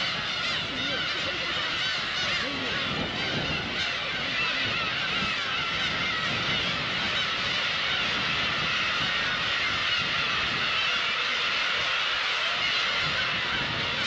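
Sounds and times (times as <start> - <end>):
gull colony calling: 0.0 - 14.0.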